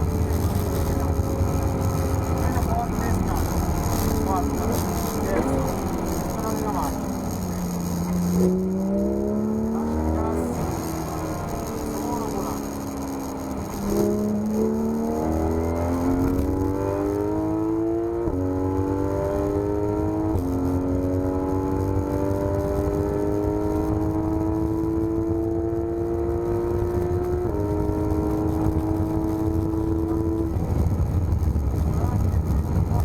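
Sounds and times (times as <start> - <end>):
sports car engine accelerating: 0.0 - 33.0.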